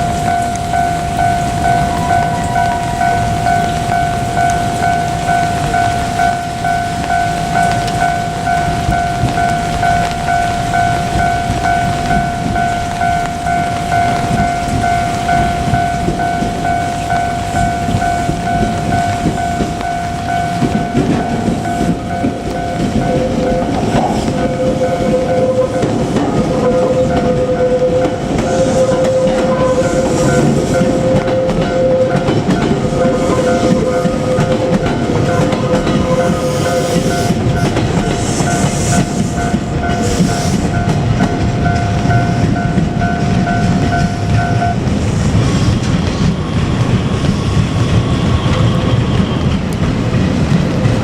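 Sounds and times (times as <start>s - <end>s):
electric train running rumble: 0.0s - 51.0s
level crossing warning bell: 0.0s - 51.0s.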